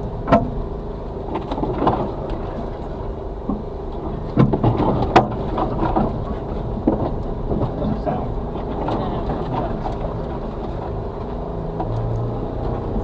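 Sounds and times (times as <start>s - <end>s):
truck engine running at low speed: 0.0s - 13.0s.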